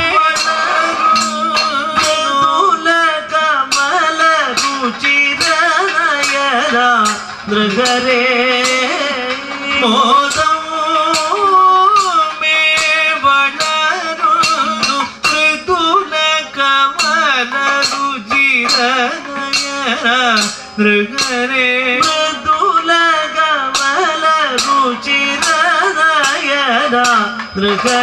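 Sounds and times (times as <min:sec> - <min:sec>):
man singing slow melody: 0:00.0 - 0:28.0
sharp drum strokes: 0:00.0 - 0:28.0.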